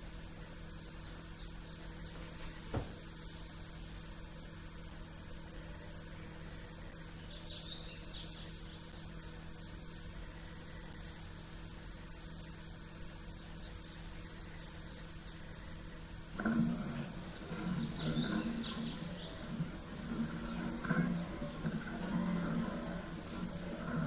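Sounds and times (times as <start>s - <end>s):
steady low hum: 0.0s - 24.0s
small songbirds chirping: 0.3s - 4.1s, 6.1s - 24.0s.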